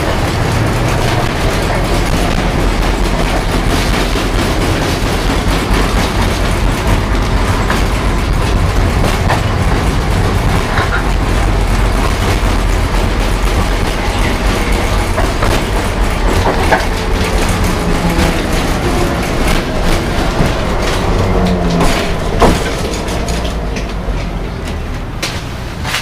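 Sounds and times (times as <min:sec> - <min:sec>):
sharp knocks and rattles: 0:00.0 - 0:26.0
tram wheels rumbling on rails: 0:00.0 - 0:26.0.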